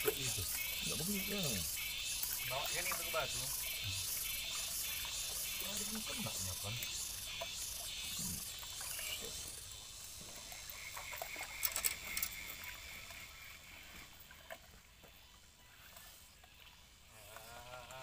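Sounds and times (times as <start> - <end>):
insects hissing: 0.0 - 18.0.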